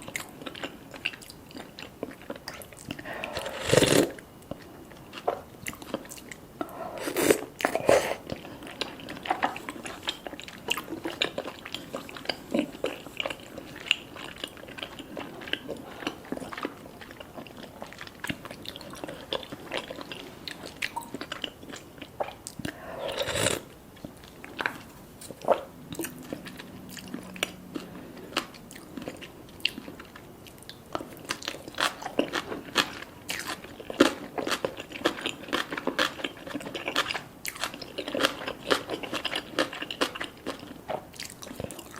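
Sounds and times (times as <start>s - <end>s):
biting and chewing food: 0.0s - 41.9s.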